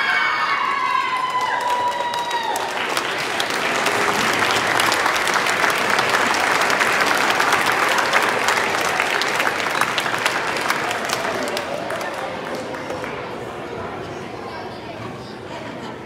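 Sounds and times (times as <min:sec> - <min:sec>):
audience applause: 0:00.0 - 0:13.5.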